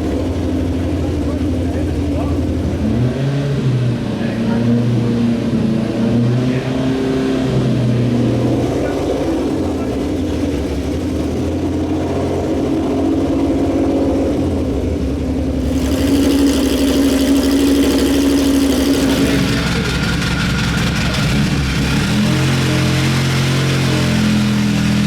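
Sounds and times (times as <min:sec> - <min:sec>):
racing car engine: 0:00.0 - 0:25.0.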